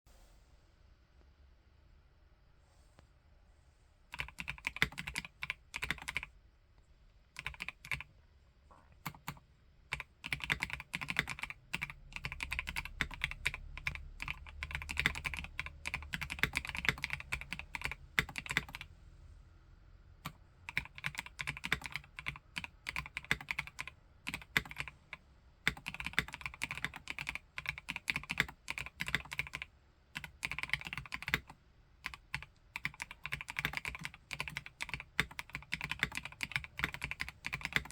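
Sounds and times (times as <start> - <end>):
mechanical keyboard typing: 4.1 - 6.3, 7.4 - 8.1, 9.0 - 18.9, 20.2 - 37.9.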